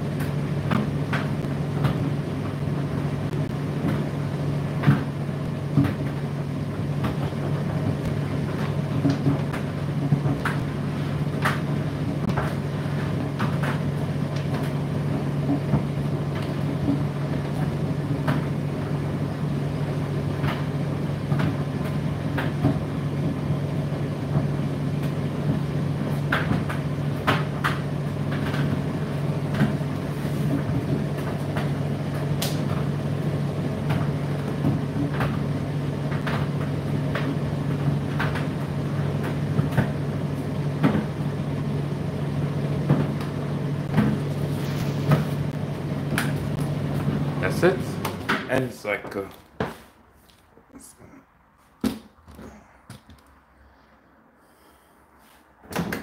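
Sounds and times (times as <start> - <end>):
tumble dryer motor hum: 0.0 - 49.8.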